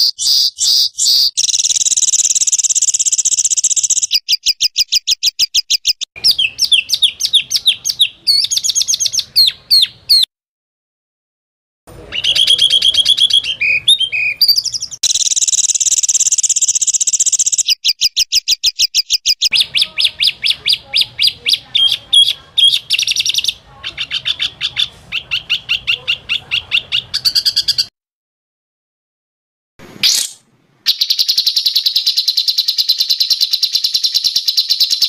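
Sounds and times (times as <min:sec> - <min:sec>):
songbird trilling: 0:00.0 - 0:10.3, 0:12.1 - 0:27.9, 0:30.0 - 0:35.0.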